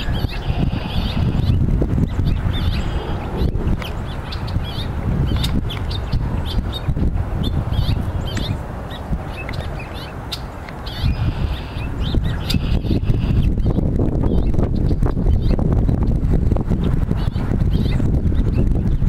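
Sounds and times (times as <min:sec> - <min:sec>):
small songbirds chirping: 0:00.0 - 0:16.1, 0:16.7 - 0:19.0
steady low rumble: 0:00.0 - 0:19.0.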